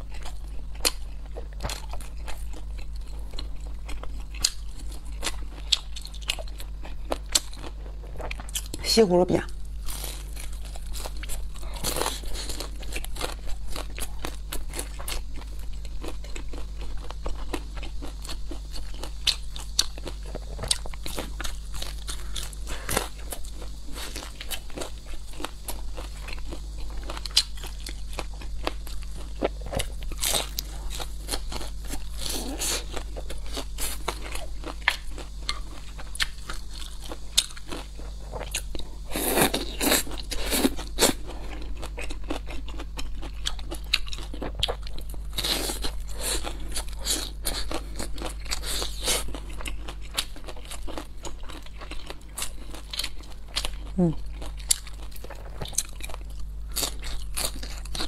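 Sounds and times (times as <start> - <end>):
crunchy bites and wet chewing: 0.0 - 58.0.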